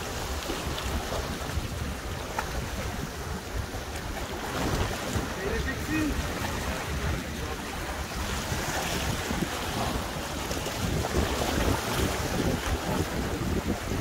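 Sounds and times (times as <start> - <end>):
surf washing against rocks: 0.0 - 14.0
wind buffeting microphone: 0.0 - 14.0.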